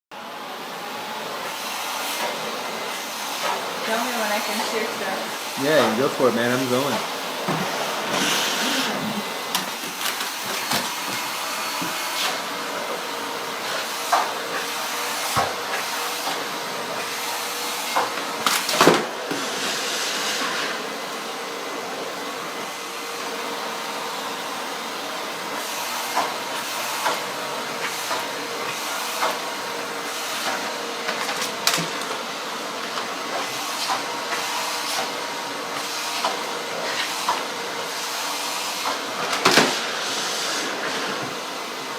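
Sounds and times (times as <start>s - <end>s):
vacuum cleaner running: 0.1s - 41.9s.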